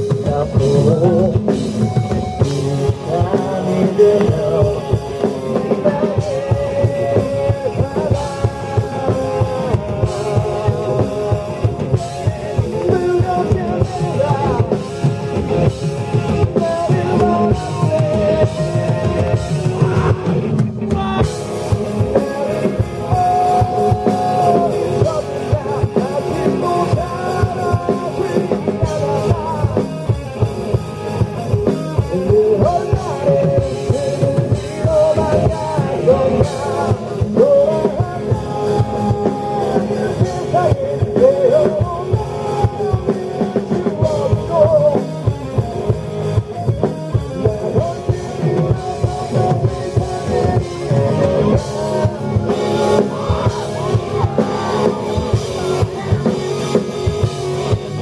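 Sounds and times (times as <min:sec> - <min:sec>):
drum kit: 0:00.0 - 0:58.0
electric guitar: 0:00.0 - 0:58.0
man singing: 0:00.0 - 0:58.0.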